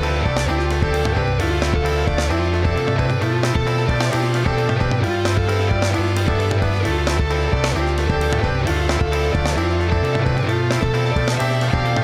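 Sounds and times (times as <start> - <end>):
background music with guitar and beat: 0.0 - 12.0.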